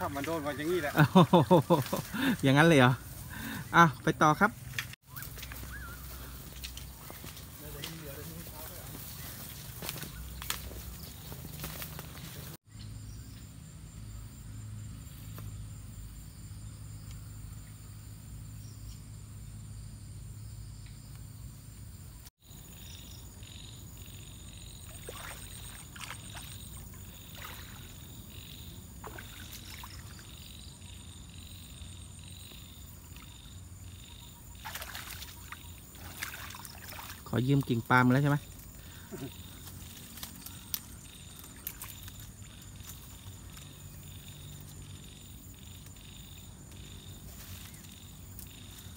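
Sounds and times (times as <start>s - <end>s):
insects droning: 0.0s - 48.9s
pulsing insect chirr: 0.0s - 48.9s.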